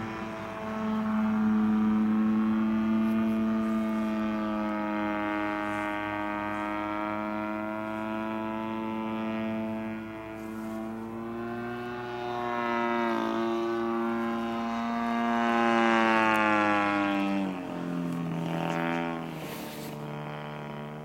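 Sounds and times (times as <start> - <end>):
model plane engine buzzing: 0.0 - 21.0.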